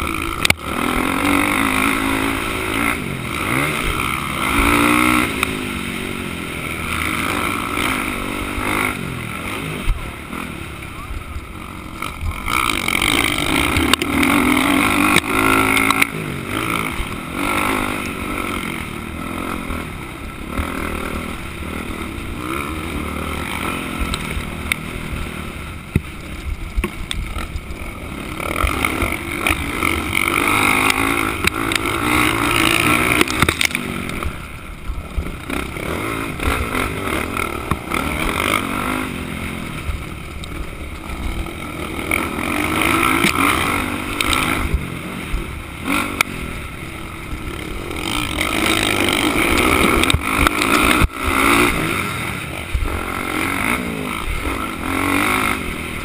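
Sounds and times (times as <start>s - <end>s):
motocross bike engine revving: 0.0s - 56.0s
wind and track noise: 0.0s - 56.0s.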